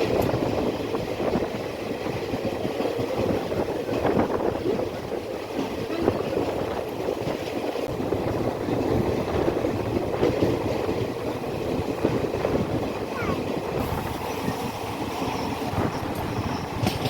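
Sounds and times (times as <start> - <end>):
train rumbling and rattling: 0.0 - 17.0
wheels knocking: 0.0 - 17.0.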